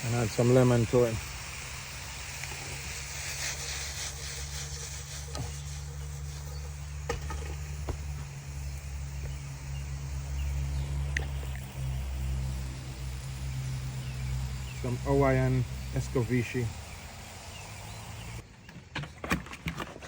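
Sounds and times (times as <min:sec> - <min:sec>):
faint hiss: 0:00.0 - 0:18.4
steady low hum: 0:00.0 - 0:18.4.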